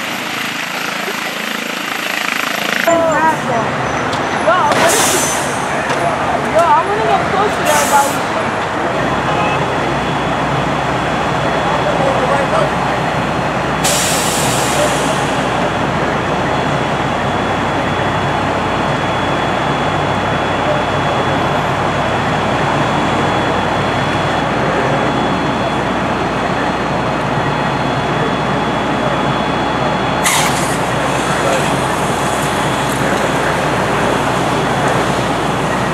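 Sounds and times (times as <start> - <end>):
traffic rumble: 0.0 - 35.9.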